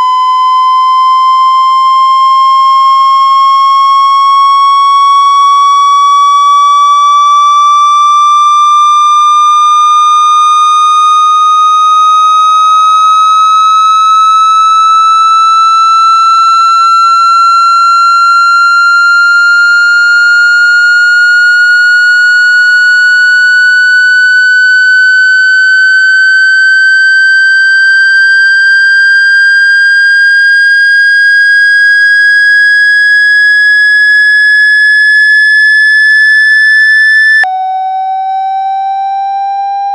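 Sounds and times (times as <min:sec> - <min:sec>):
electronic tone rising in pitch: 0:06.1 - 0:39.9.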